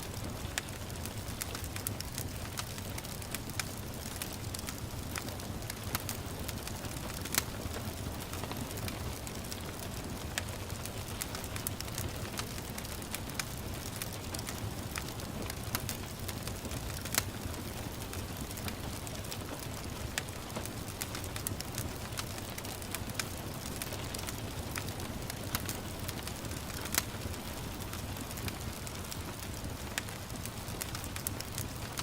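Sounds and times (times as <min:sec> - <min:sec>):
gentle rain hiss: 0:00.0 - 0:32.0
wood fire crackling: 0:00.0 - 0:32.0.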